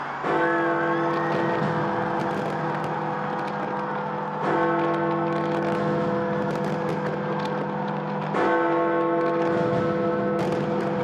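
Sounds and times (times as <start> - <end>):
large bell striking: 0.0 - 11.0.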